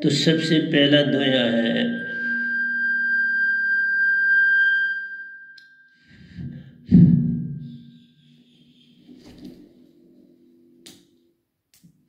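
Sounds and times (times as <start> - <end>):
steady held tones: 0.0 - 11.3.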